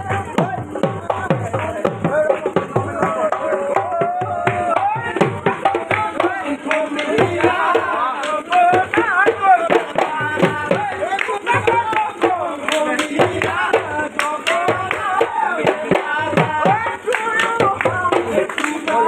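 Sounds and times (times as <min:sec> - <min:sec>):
dhol drum beating: 0:00.0 - 0:19.0
man singing into a microphone: 0:00.0 - 0:19.0.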